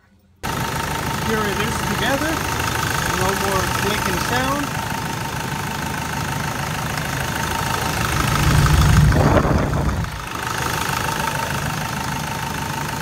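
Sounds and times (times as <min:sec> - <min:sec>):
diesel engine idling: 0:00.4 - 0:13.0.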